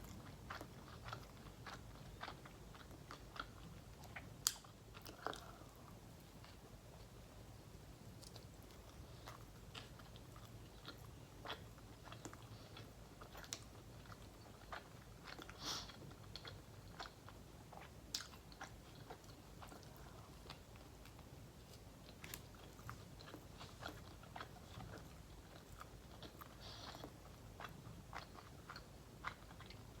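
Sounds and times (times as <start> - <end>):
close-miked chewing: 0.0 - 7.2, 8.1 - 30.0.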